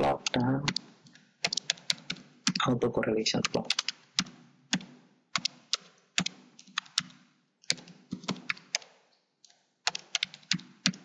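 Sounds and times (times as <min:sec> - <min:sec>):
typing on computer keyboard: 0:00.0 - 0:02.7, 0:03.4 - 0:11.0.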